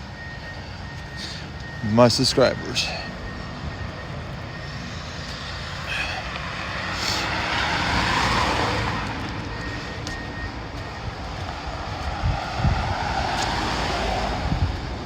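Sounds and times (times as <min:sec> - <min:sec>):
vehicle passing on street: 0:00.0 - 0:15.0.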